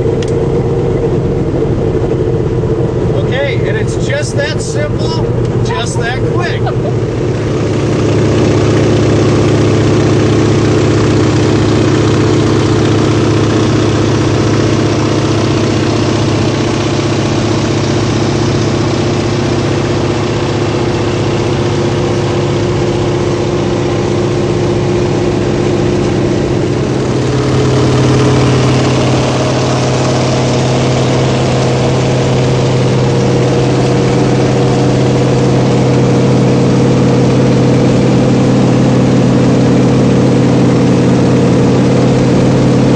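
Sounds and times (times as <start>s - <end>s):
aircraft radial engine and propeller: 0.0s - 42.9s.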